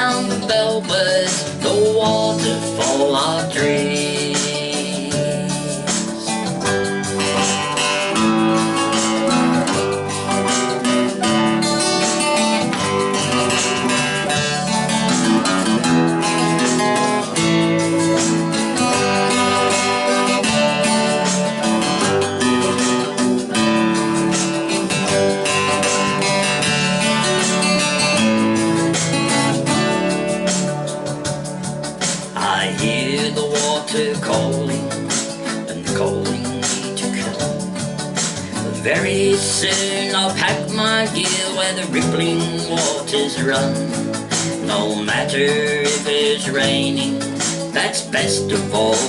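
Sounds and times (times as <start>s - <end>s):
acoustic guitar playing: 0.0s - 49.0s.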